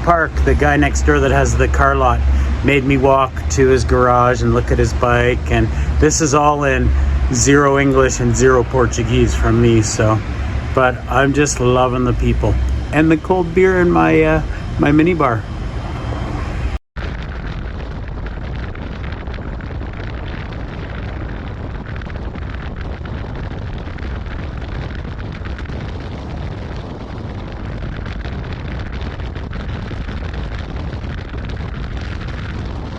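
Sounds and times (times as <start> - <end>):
low steady rumbling noise: 0.0 - 32.9.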